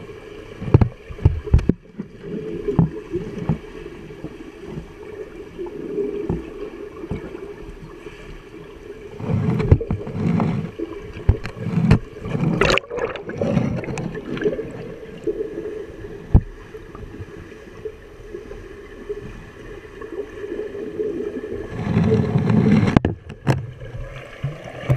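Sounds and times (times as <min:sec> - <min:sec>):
muffled underwater splashing: 0:00.0 - 0:24.9.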